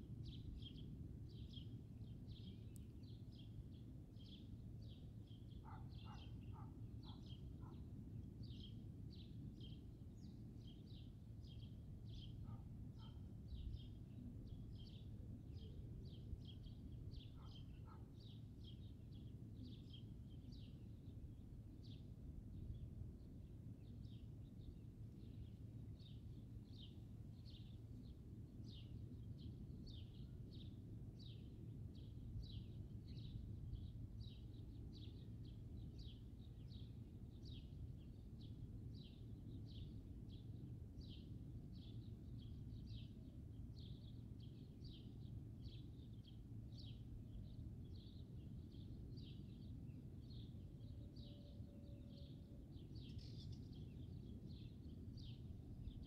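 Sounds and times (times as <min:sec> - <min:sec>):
faint low background rumble: 0:00.0 - 0:56.0.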